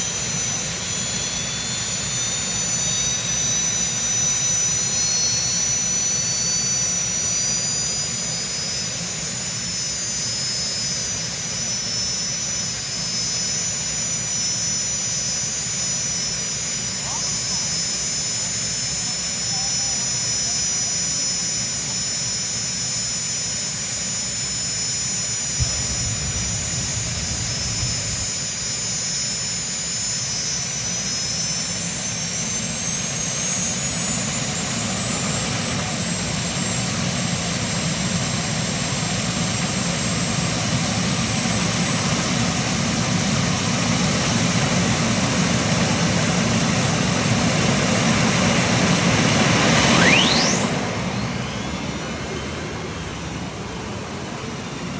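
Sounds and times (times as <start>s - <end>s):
engine at full throttle: 0.0s - 54.9s
high whine climbing in pitch: 0.0s - 54.9s.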